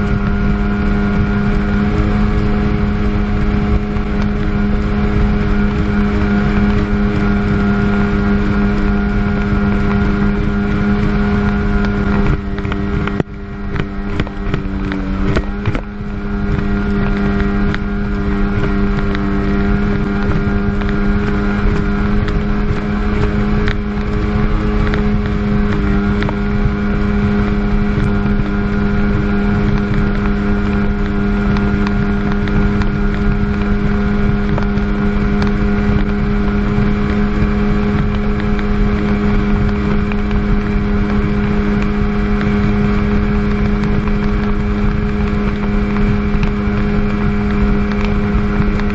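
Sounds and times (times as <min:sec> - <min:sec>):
jet ski engine running hard: 0:00.0 - 0:48.9.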